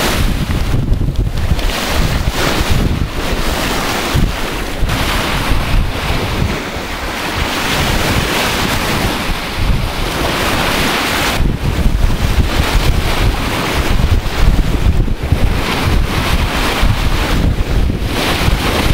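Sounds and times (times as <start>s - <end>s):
surf breaking on shore: 0.0s - 18.9s
wind buffeting microphone: 0.0s - 18.9s.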